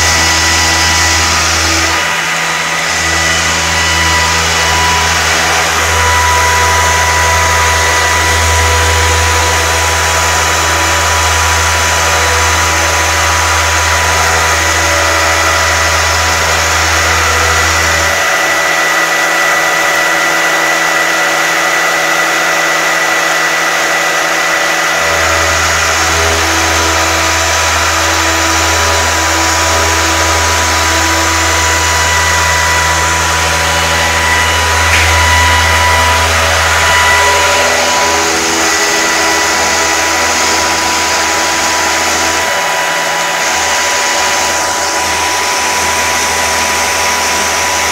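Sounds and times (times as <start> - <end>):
deep hum: 0.0 - 20.8, 24.4 - 47.9
stone router spindle whine: 0.0 - 47.9.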